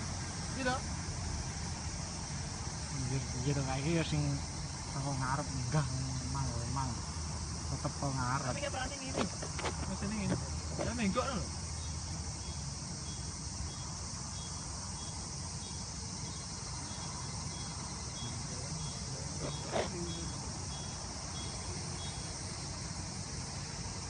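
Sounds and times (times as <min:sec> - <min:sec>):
insects shrilling in grass: 0:00.0 - 0:24.0.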